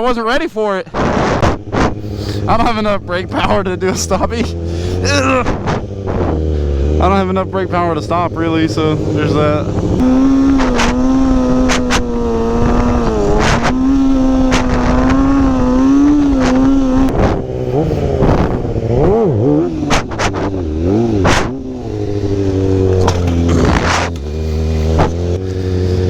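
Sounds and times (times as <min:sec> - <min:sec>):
motorcycle engine revving: 0:00.9 - 0:26.0.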